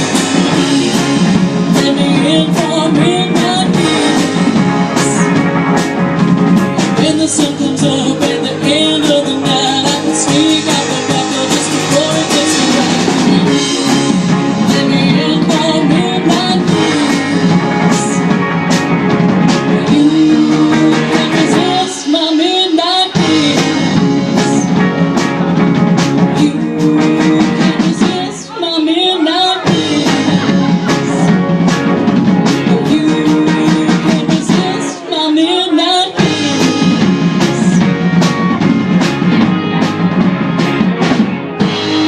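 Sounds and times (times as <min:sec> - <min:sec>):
rock and roll band playing: 0:00.0 - 0:42.0.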